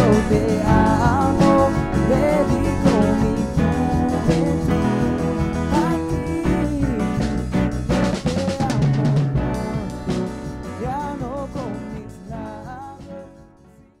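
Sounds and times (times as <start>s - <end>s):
music with drum kit and melody: 0.0s - 14.0s.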